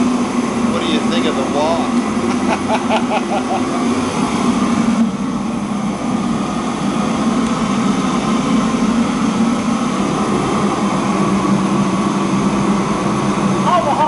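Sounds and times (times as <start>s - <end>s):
exhaust fan humming: 0.0s - 14.0s
stove burner roaring: 0.0s - 14.0s.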